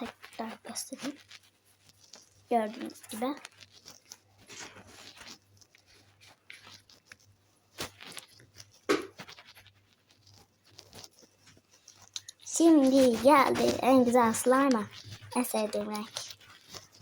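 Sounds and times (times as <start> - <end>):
slime squishing and crackling: 0.0 - 17.0.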